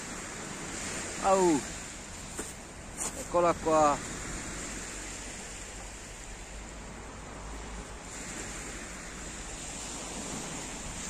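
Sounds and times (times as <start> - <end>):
sea surf on a beach: 0.0 - 11.0
wind on microphone: 0.0 - 11.0.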